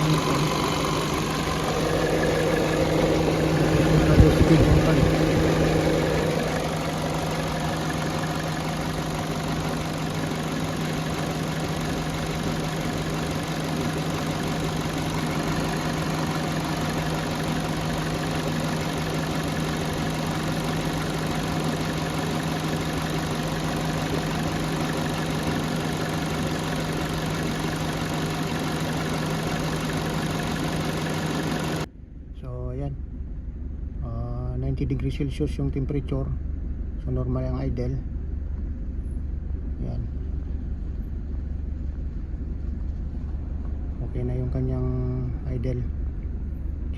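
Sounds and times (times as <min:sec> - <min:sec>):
car engine idling: 0:00.0 - 0:46.9
radiator cooling fan running: 0:00.0 - 0:46.9.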